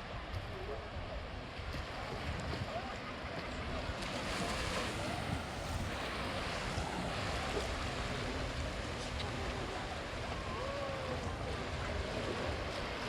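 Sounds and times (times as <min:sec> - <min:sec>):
sea waves breaking on beach: 0:00.0 - 0:13.0
wind rumbling on microphone: 0:00.0 - 0:13.0.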